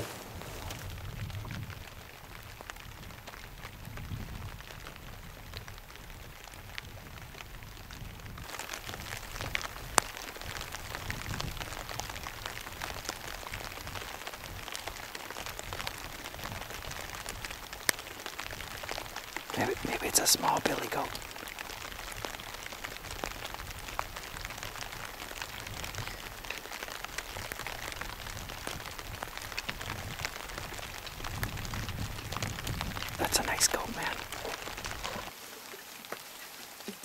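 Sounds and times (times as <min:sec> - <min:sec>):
light rain patter: 0:00.0 - 0:37.0.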